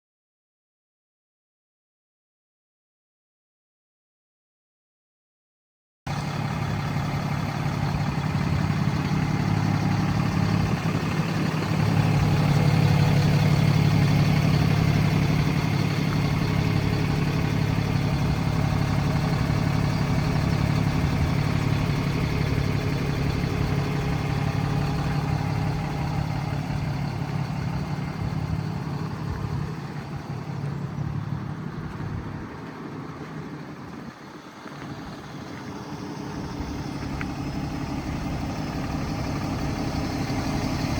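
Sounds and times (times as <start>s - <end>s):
diesel engine idling: 6.1s - 40.9s.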